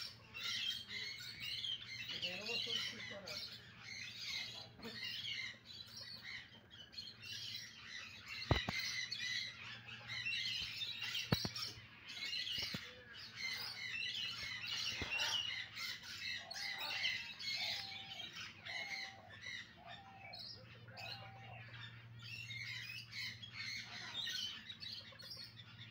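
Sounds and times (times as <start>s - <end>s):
birds chirping and twittering: 0.0s - 25.9s
low evenly spaced bird calls: 0.0s - 25.9s.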